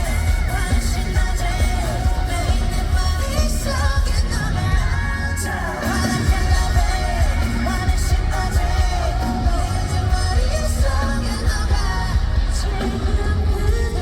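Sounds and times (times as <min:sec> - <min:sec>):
live pop-rock band: 0:00.0 - 0:14.0
man singing lead vocal: 0:00.0 - 0:14.0.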